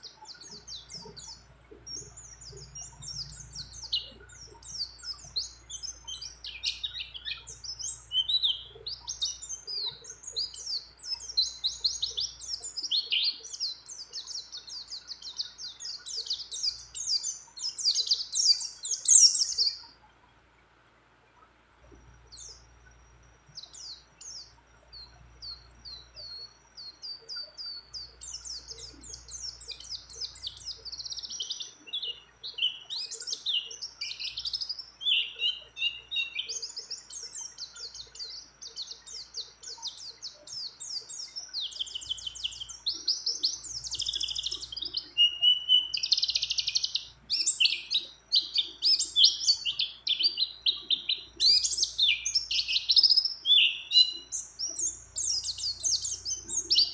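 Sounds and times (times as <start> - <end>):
white-eye twittering trills: 0.0 - 20.4, 21.4 - 56.9.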